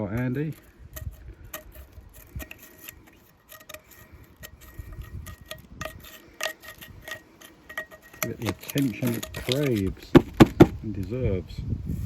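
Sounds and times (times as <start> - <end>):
metal tools clinking: 0.0 - 10.8.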